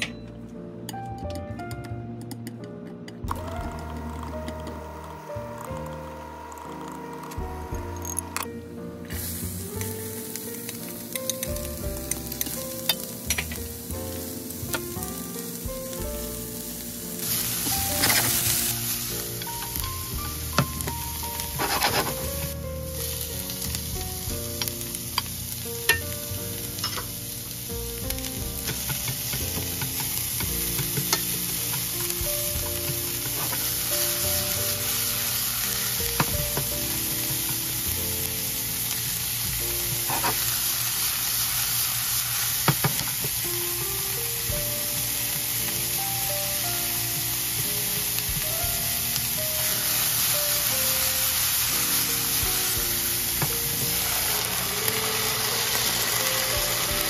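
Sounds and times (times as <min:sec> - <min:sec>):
meat sizzling in a frying pan: 0:09.1 - 0:57.0.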